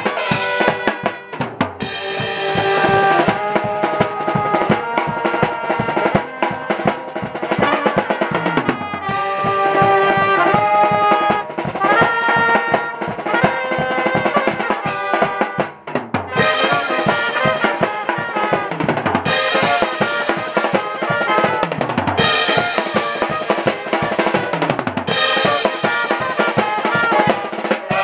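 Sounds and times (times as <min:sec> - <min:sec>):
brass band horns playing melody: 0:00.0 - 0:28.0
drum kit beat: 0:00.0 - 0:28.0.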